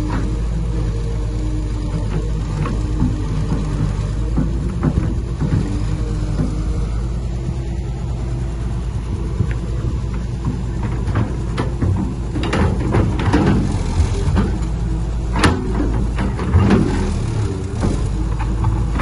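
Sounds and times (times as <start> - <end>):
heavy machine diesel engine: 0.0 - 19.0.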